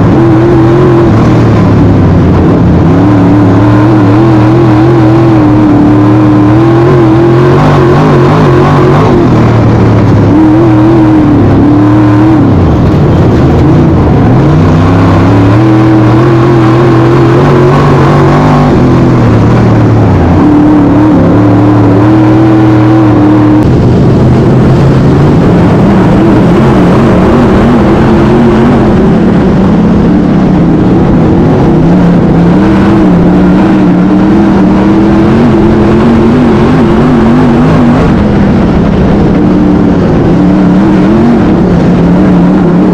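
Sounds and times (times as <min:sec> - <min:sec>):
race car engines revving: 0:00.0 - 0:42.9.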